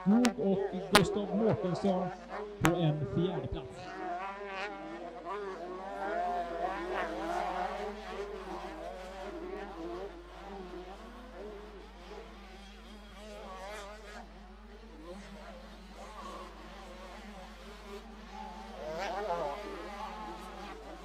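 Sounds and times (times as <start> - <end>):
motocross bike engines racing: 0.0 - 21.0.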